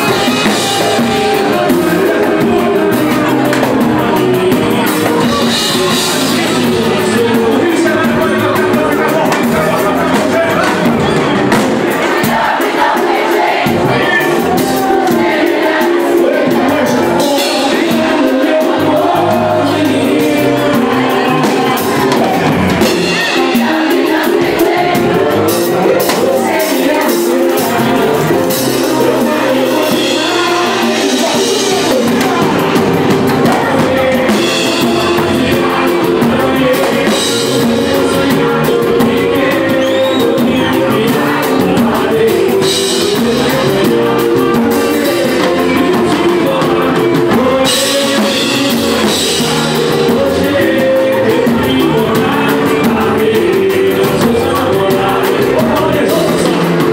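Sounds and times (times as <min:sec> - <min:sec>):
people singing: 0:00.0 - 0:56.9
samba band playing: 0:00.0 - 0:56.9.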